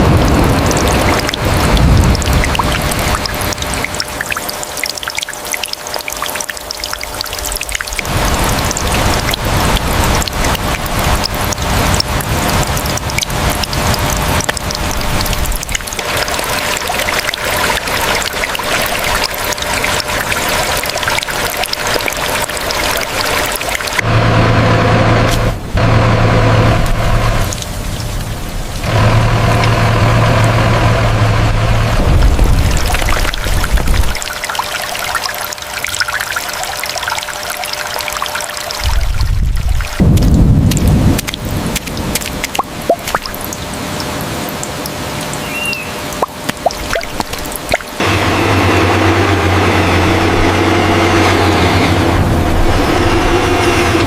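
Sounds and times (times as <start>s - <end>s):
water pouring and trickling: 0.0s - 24.1s, 25.2s - 54.0s
rain patter: 0.0s - 48.2s
low engine hum: 0.0s - 54.0s.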